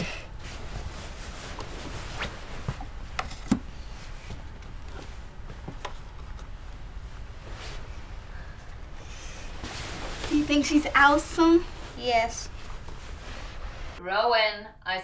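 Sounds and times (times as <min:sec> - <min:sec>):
bedclothes rustling: 0:00.0 - 0:14.0.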